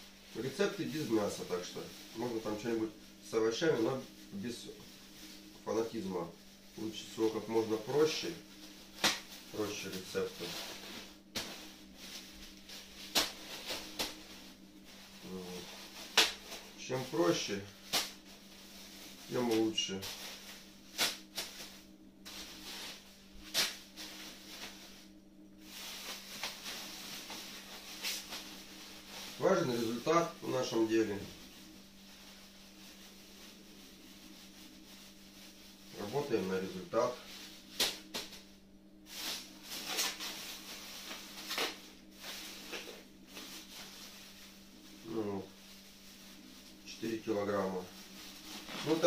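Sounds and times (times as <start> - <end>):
plastic bags rustling and crinkling: 0.0 - 49.0
steady low hum: 0.0 - 49.0.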